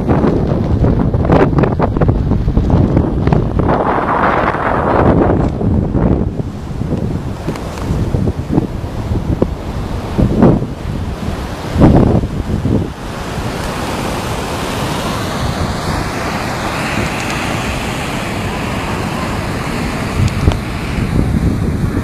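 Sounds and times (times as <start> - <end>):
surf breaking on beach: 0.0 - 22.0
wind buffeting microphone: 0.0 - 22.0.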